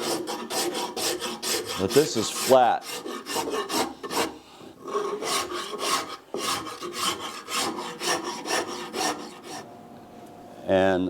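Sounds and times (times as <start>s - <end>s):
rasp filing wood: 0.0s - 9.7s.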